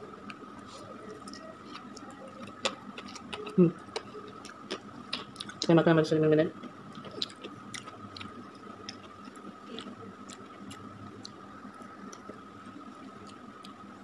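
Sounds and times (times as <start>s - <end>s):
person chewing noodles: 0.2s - 5.6s, 6.6s - 14.0s.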